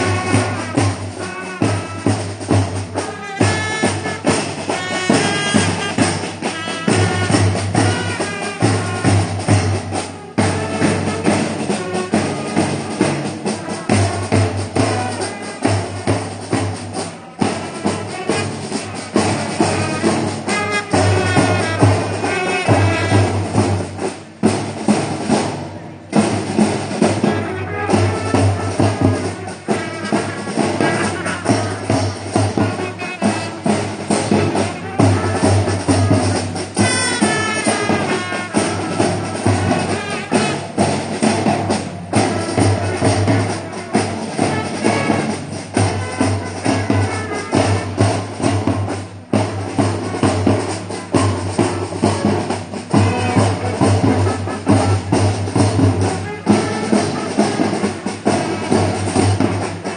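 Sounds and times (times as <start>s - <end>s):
marching band playing: 0.0s - 59.9s
steady drum beat: 0.0s - 59.9s.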